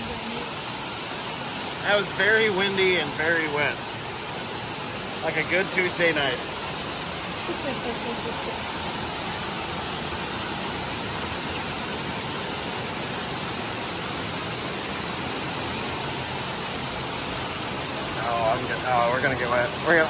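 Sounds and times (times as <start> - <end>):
cave waterfall rushing: 0.0 - 20.0.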